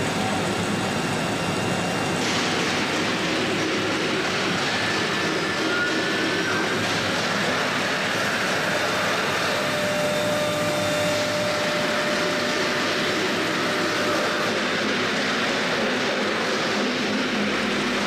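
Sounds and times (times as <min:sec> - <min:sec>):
engraving router running: 0:00.0 - 0:18.0.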